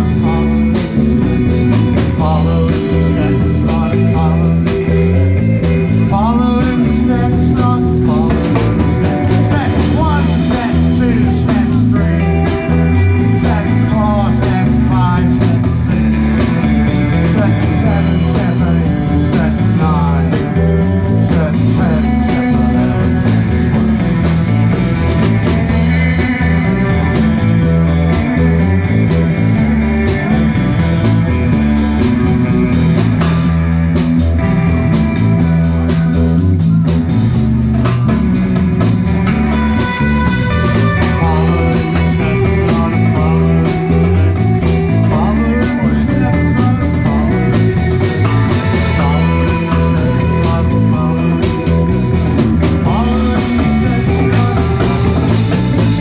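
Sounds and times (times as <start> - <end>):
lead guitar: 0.0 - 56.0
live rock band playing: 0.0 - 56.0.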